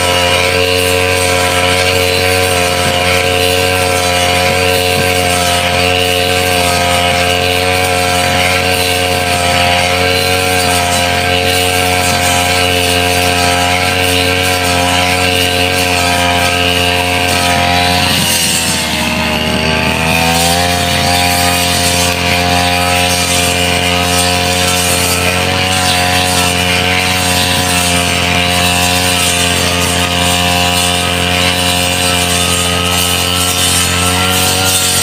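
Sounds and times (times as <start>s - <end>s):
brush cutter engine cutting grass: 0.0s - 35.0s.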